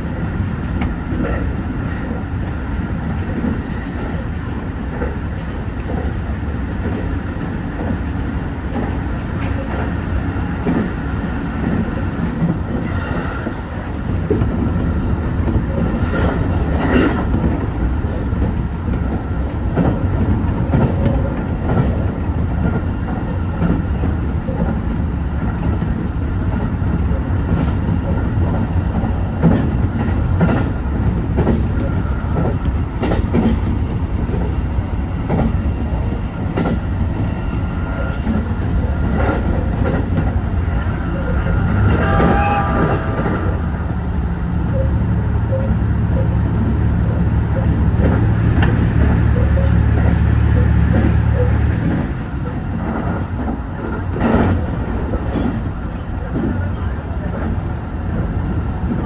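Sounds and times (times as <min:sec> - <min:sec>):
railcar running hum: 0:00.0 - 0:59.0.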